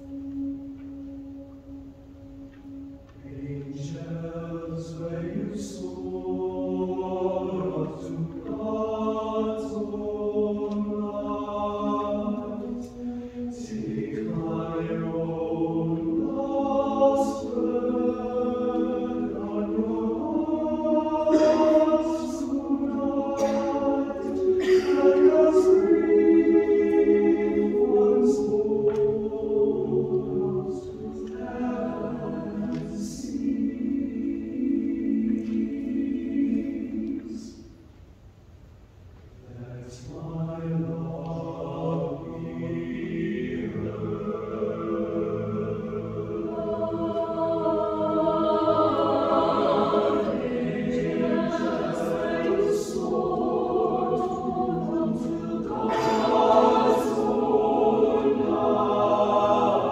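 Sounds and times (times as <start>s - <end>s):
choir singing a cappella: 0.0s - 37.8s, 39.4s - 59.9s.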